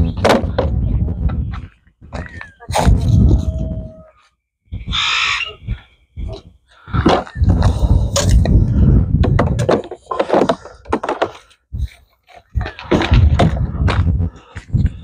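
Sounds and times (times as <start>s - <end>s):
wind rumbling on microphone: 0.0s - 9.9s, 11.7s - 15.0s.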